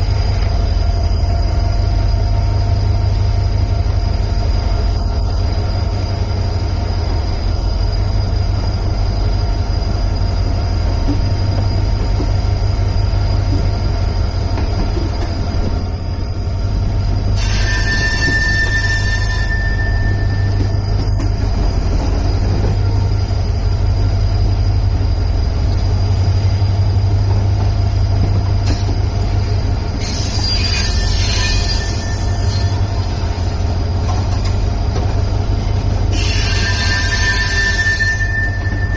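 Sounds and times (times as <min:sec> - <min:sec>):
train rumbling: 0:00.0 - 0:38.9
train wheels squealing: 0:00.0 - 0:38.9.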